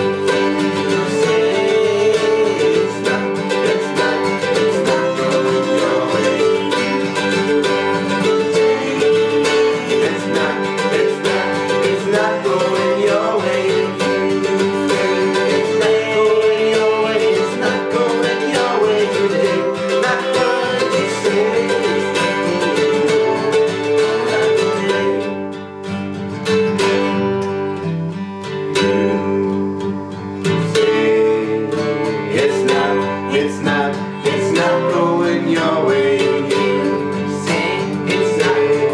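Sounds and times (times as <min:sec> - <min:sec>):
acoustic country jazz band: 0:00.0 - 0:38.9
plucked guitar: 0:00.0 - 0:38.9.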